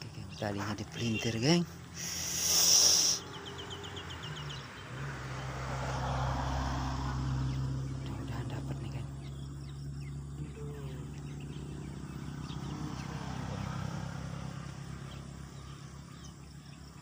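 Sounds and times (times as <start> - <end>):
vehicle passing rumble: 0.0 - 17.0.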